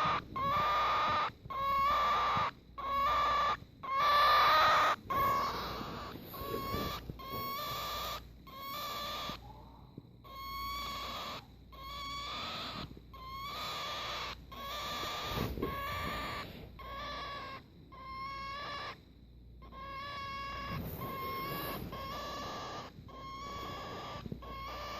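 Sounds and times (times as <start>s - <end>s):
cockatiel calling: 0.0s - 19.0s, 19.6s - 24.9s.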